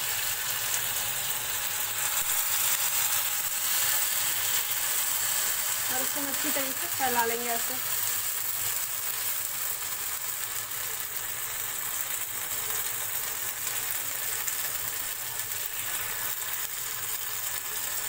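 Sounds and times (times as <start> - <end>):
batter sizzling in hot oil: 0.0 - 18.0.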